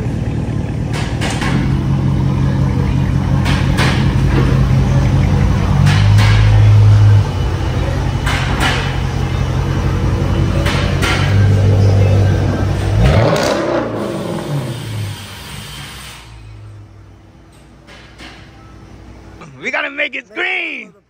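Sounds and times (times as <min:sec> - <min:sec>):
car engine exhaust drone: 0:00.0 - 0:21.0.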